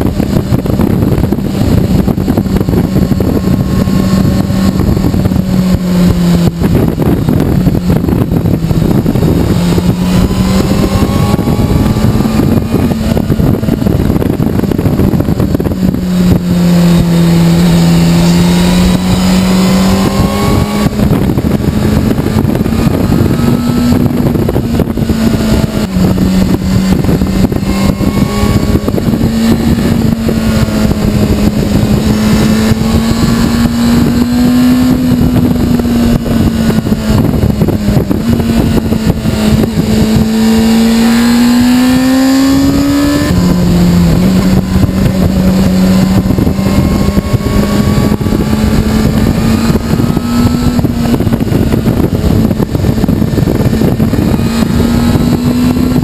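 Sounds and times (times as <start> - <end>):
motorcycle engine accelerating: 0.0 - 56.0
wind and road noise: 0.0 - 56.0.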